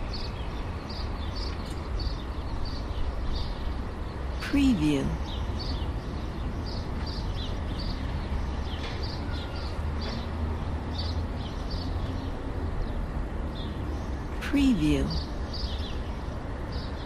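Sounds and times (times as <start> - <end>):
distant traffic rumble: 0.0 - 17.0
small birds chirping: 0.0 - 17.0.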